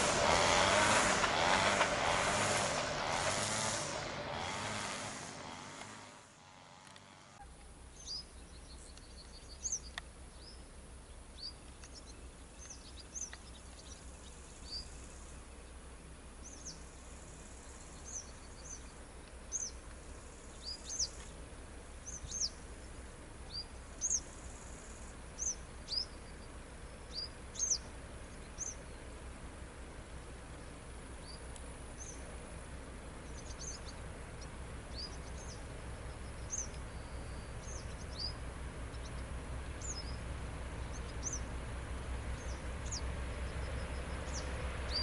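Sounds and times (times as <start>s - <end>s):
faint low rumble: 7.4s - 45.0s
small songbirds chirping: 7.4s - 45.0s.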